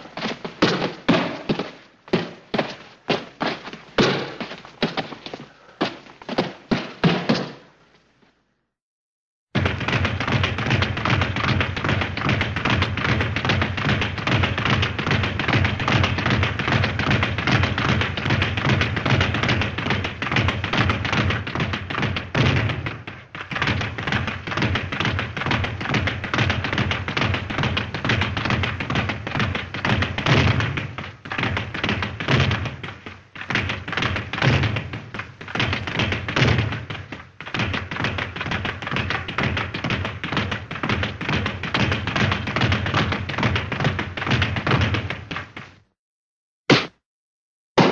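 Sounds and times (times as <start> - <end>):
speed bag being punched: 0.0 - 3.4, 4.0 - 5.1, 6.4 - 7.6, 9.6 - 45.3.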